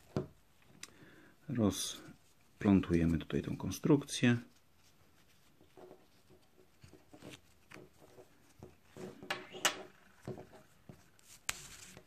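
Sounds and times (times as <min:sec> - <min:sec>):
fabric rustling: 0:02.0 - 0:12.0.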